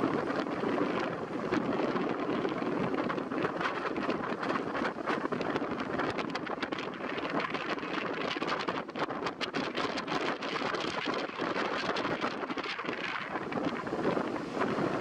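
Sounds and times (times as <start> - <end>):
stormy wind and rain: 0.0 - 15.0.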